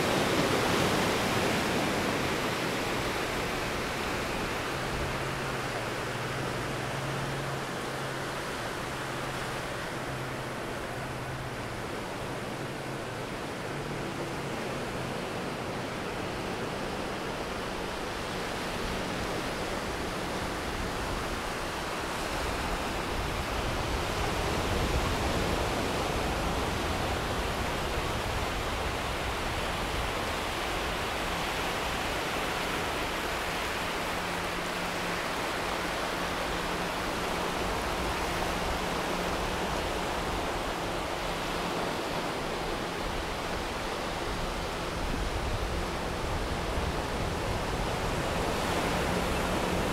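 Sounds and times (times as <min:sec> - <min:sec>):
ocean surf washing onto beach: 0:00.0 - 0:49.9.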